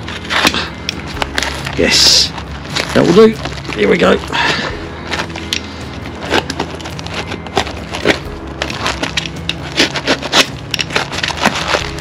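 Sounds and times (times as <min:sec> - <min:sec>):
cardboard and tape tearing: 0:00.0 - 0:12.0.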